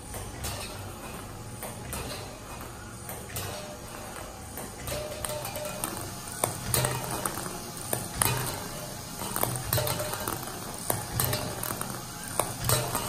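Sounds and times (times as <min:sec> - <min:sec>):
balls clicking along metal track: 0:00.2 - 0:13.0.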